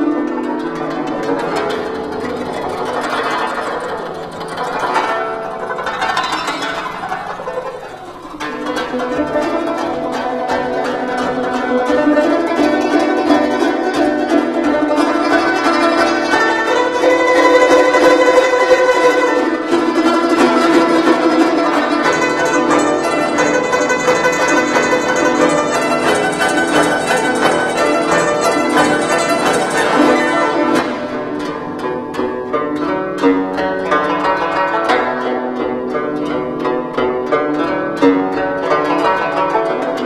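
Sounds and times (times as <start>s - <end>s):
solo zither playing: 0.0s - 40.0s.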